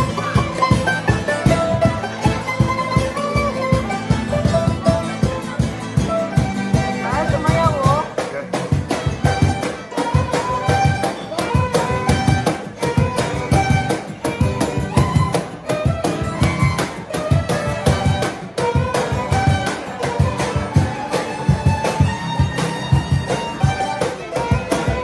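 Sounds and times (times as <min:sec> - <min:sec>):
violin melody: 0:00.0 - 0:08.2, 0:08.8 - 0:25.0
cajon beat: 0:00.0 - 0:25.0
strummed acoustic guitar: 0:00.0 - 0:25.0.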